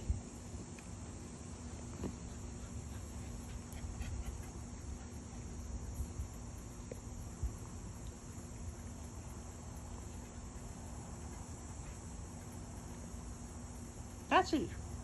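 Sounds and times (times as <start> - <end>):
insects chirring: 0.0 - 15.0
low steady hum: 0.0 - 15.0.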